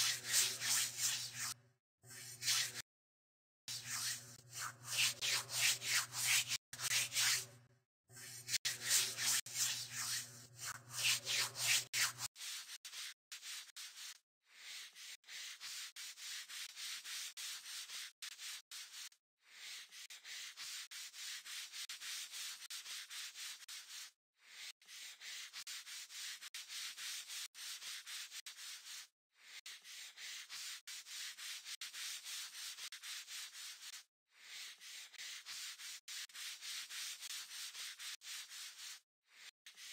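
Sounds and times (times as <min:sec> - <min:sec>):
rapid scrubbing strokes: 0:00.0 - 0:02.8, 0:03.7 - 0:19.0, 0:25.0 - 0:39.9.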